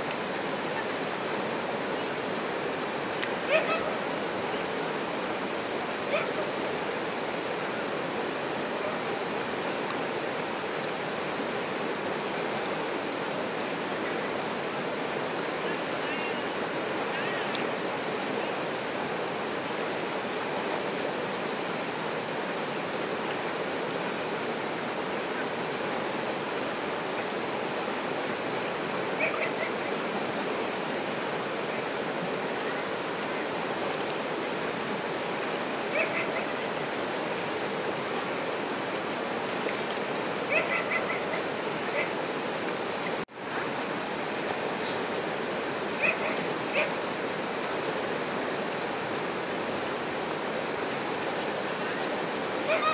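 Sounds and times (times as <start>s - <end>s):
river rapids rushing over rocks: 0.0s - 52.9s.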